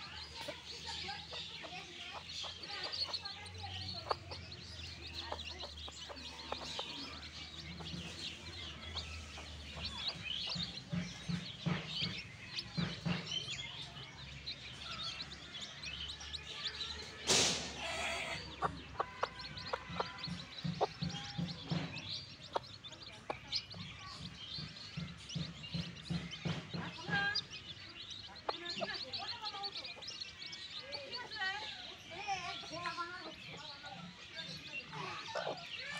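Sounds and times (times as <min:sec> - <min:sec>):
chicks peeping: 0:00.0 - 0:35.9
hen clucking: 0:00.0 - 0:35.9.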